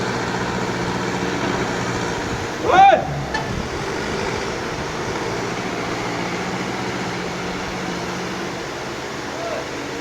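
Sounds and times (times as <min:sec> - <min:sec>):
diesel engine running steadily: 0:00.0 - 0:10.0.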